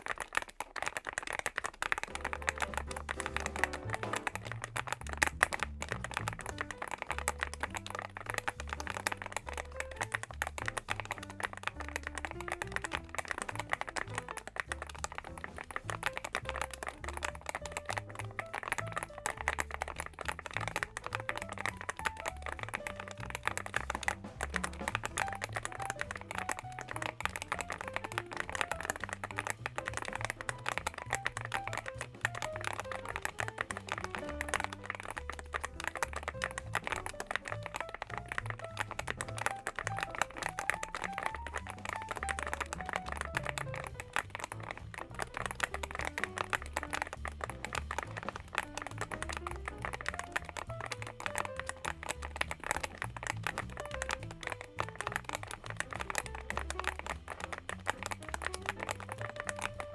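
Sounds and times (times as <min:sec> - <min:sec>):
mechanical keyboard typing: 0:00.0 - 0:59.9
soft background music: 0:02.1 - 0:59.9.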